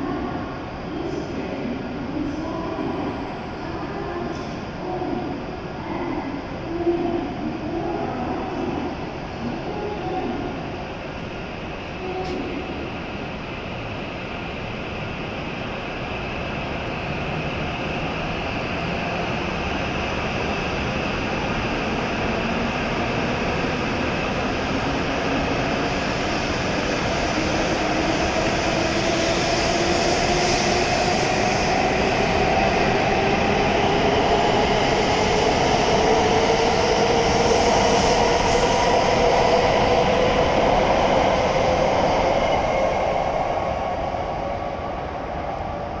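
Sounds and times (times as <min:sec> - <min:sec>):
train running noise: 0:00.0 - 0:46.0.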